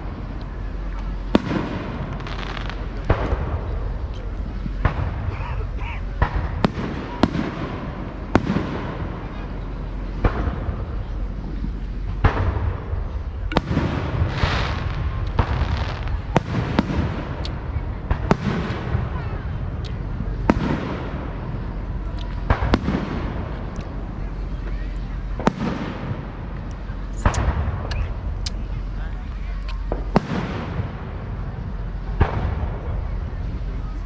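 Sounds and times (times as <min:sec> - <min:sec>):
fireworks banging with echoing rumble: 0:00.0 - 0:34.0.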